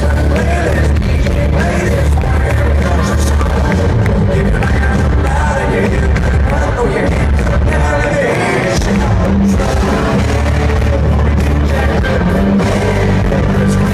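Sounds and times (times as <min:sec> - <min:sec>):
electric guitars: 0:00.0 - 0:13.9
heavy bass: 0:00.0 - 0:13.9
man singing lead vocal: 0:00.0 - 0:13.9.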